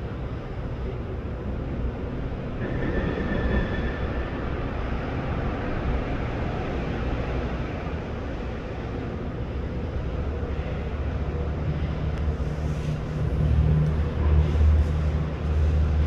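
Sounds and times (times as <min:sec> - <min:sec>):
heavy machinery rumbling: 0:00.0 - 0:16.0.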